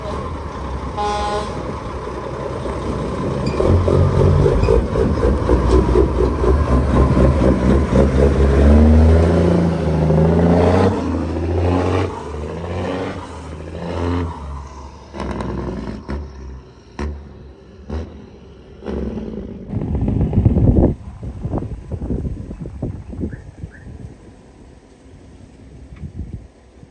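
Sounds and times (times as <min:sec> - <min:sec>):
truck diesel engine under load: 0:00.0 - 0:26.9.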